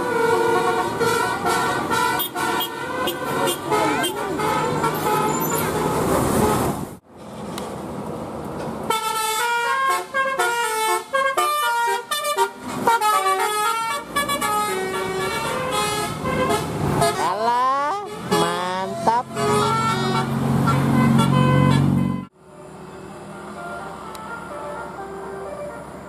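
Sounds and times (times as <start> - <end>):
multi-tone bus horn melody: 0.0 - 6.9, 8.9 - 22.4, 23.4 - 26.0
engine and road noise: 0.0 - 26.0.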